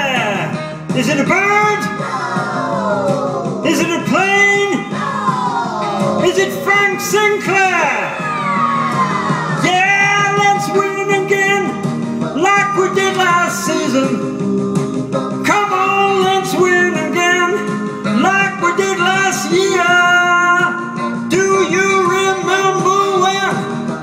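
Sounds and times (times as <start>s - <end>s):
person singing: 0.0s - 8.2s, 9.6s - 24.0s
guitar accompaniment: 0.0s - 24.0s.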